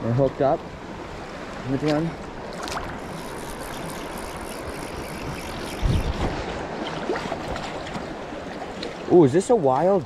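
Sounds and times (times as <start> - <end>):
creek water flowing: 0.0 - 10.0.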